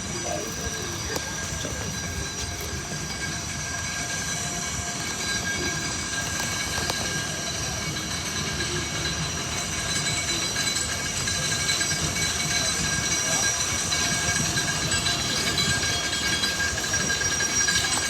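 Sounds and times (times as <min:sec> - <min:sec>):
locomotive running gear rumble: 0:00.0 - 0:18.0.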